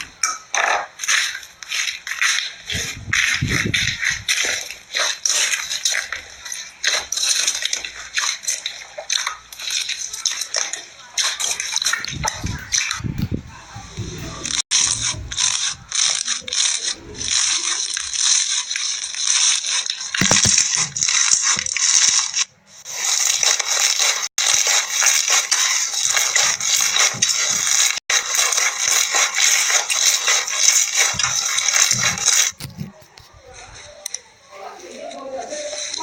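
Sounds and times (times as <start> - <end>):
slime crackling and popping: 1.0 - 13.0, 14.8 - 32.8.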